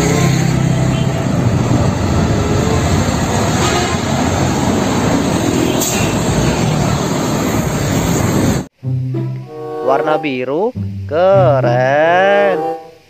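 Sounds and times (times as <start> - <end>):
truck engine rumble: 0.0 - 11.8
road noise: 0.0 - 13.0.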